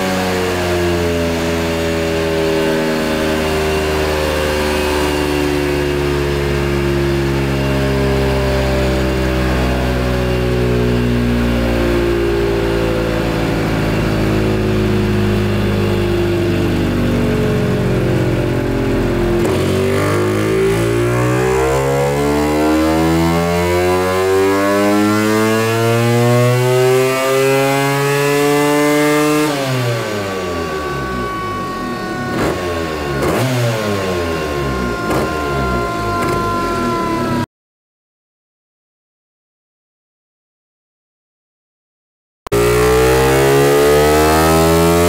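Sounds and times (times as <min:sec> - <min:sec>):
scooter engine revving on dyno: 0:00.0 - 0:37.5, 0:42.5 - 0:45.0.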